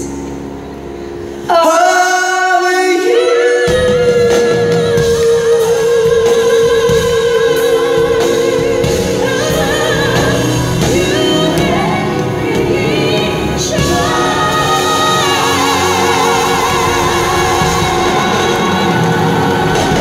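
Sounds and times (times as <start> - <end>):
band accompaniment: 0.0 - 20.0.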